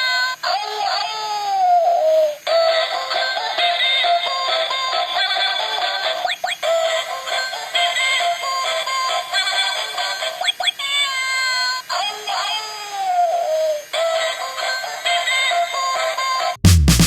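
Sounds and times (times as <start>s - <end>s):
toy electronic melody with singing: 1.9s - 16.6s.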